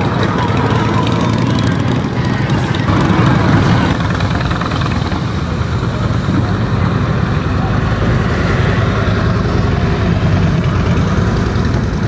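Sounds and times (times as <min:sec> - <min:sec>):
motorcycle engines rolling past: 0:00.0 - 0:12.0.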